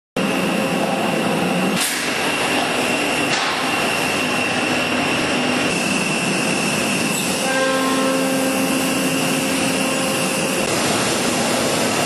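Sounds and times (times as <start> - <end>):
machine hum and hiss: 0.2 - 12.0.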